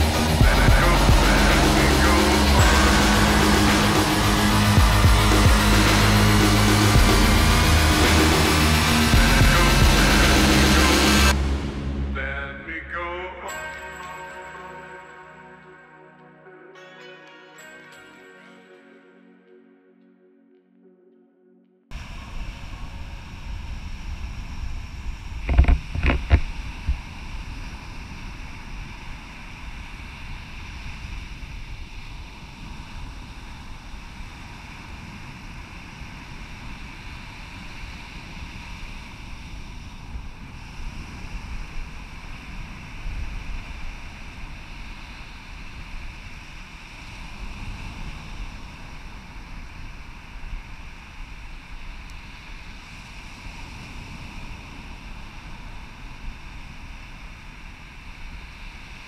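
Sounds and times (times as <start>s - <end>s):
gentle surf: 0.0s - 20.0s, 21.9s - 59.0s.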